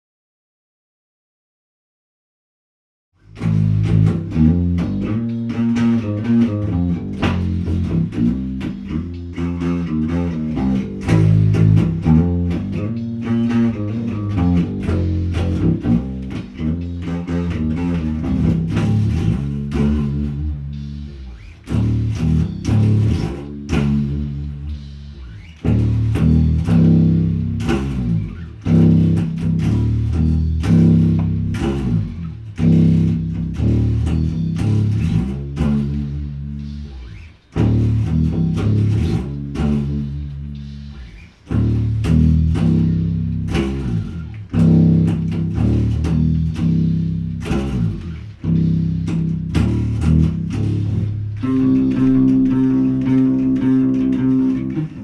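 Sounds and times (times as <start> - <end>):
bass guitar riff: 3.2 - 55.0.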